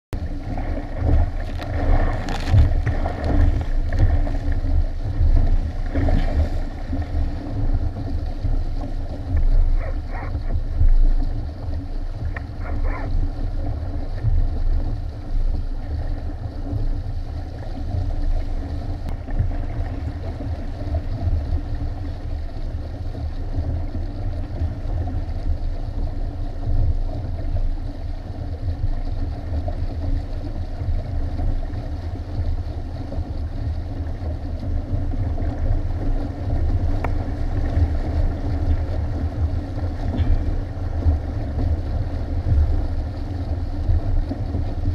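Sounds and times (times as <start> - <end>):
wind rumble on microphone: 0.1 - 44.9
water splashing along hulls: 0.2 - 44.9.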